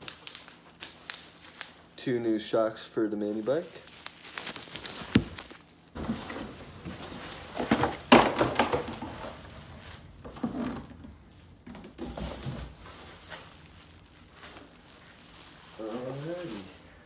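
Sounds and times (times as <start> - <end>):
packaging rustling and clattering: 0.0 - 2.0, 3.4 - 17.0.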